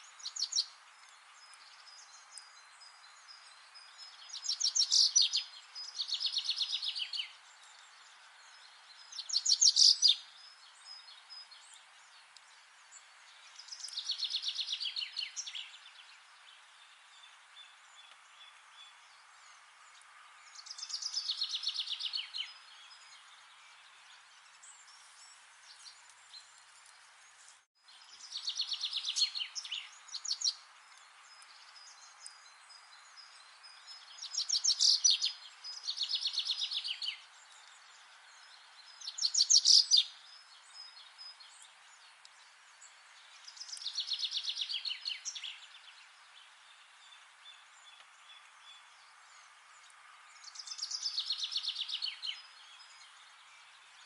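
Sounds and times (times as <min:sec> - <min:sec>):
songbird singing falling trill: 0:00.0 - 0:19.6, 0:27.9 - 0:46.1, 0:46.7 - 0:54.0
faint background hiss: 0:00.0 - 0:54.0.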